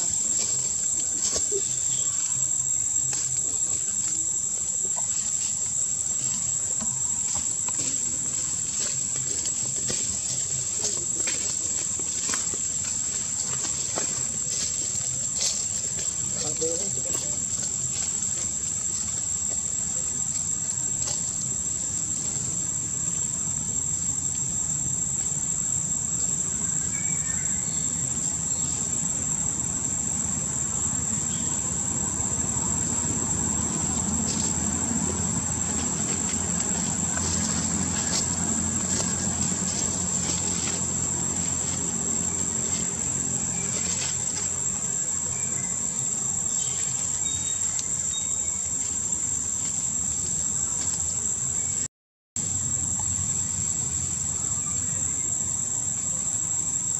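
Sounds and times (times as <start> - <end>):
insect chorus drone: 0.0 - 56.9.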